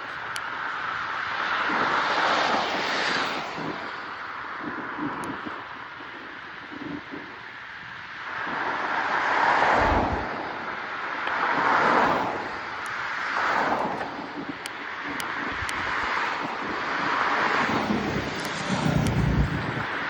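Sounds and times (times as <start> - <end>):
low wind buffet: 0.0 - 20.0
wind rushing over microphone: 0.0 - 20.0.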